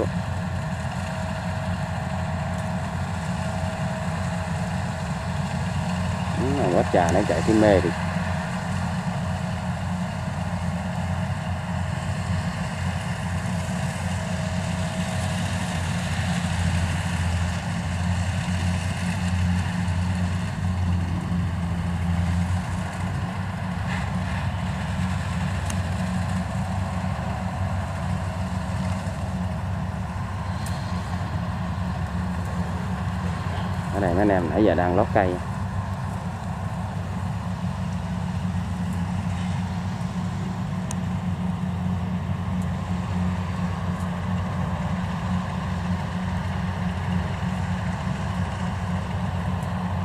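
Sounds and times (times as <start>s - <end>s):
combine harvester engine humming: 0.0s - 50.0s.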